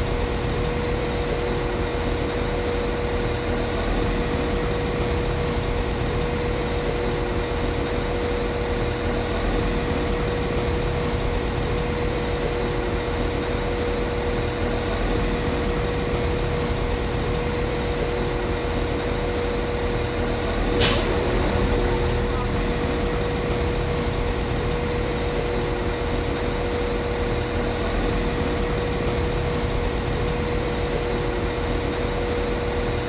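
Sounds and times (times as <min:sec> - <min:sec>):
train diesel engine idling: 0:03.5 - 0:30.9.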